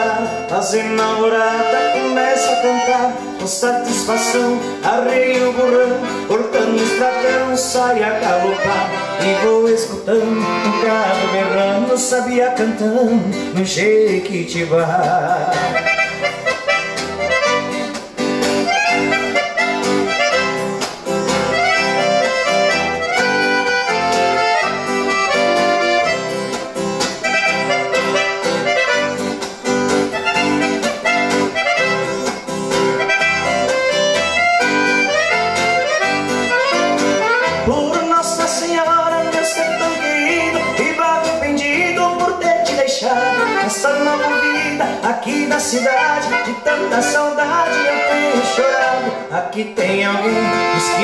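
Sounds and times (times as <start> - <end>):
accordion melody: 0.0 - 51.0
strummed rhythm accompaniment: 0.0 - 51.0.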